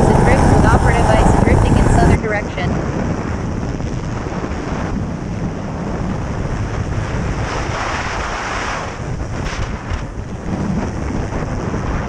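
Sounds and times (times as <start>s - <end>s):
rough sea: 0.0s - 12.0s
strong wind on microphone: 0.0s - 12.0s.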